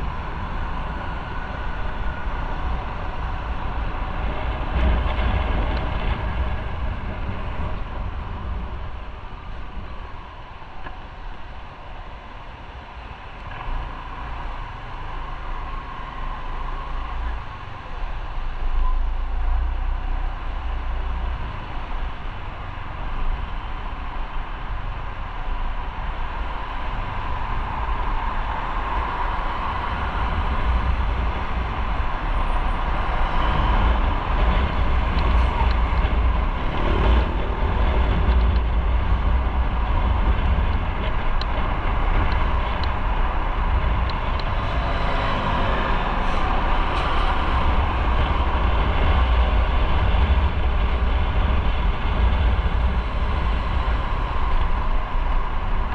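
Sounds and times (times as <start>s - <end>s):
low rumble on microphone: 0.0s - 55.9s
wind and road noise: 0.0s - 55.9s.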